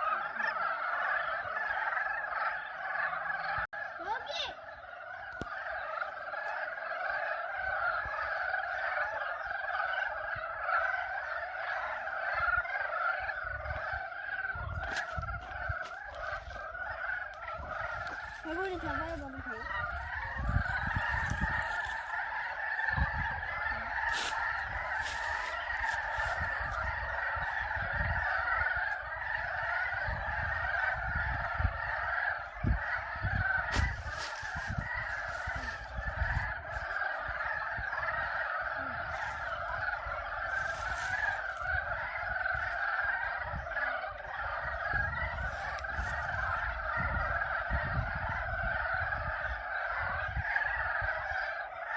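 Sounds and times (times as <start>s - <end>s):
frogs croaking: 0.0s - 51.9s.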